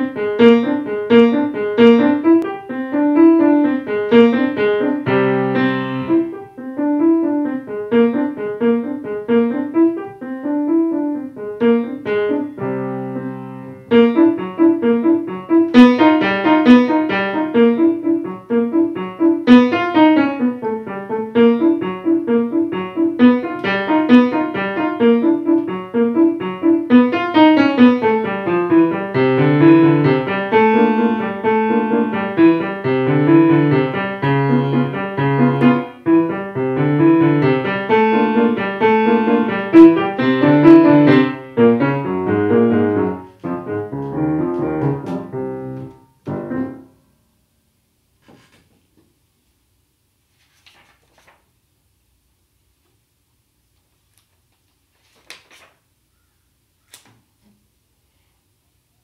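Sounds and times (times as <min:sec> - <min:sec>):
solo grand piano: 0:00.0 - 0:47.5.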